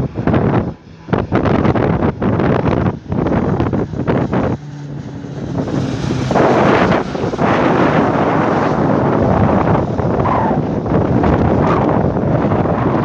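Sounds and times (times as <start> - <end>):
aircraft engine noise: 0.0 - 13.0
wind buffeting microphone: 0.0 - 13.0.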